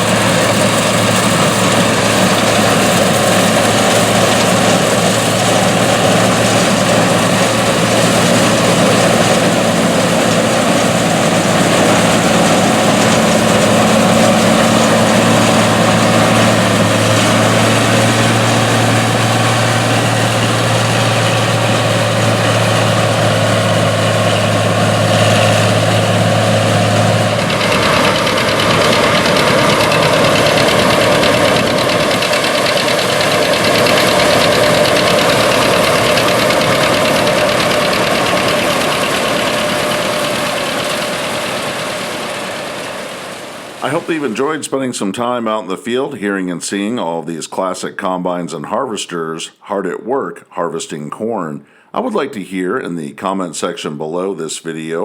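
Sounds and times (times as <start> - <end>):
combine harvester running: 0.0 - 44.8.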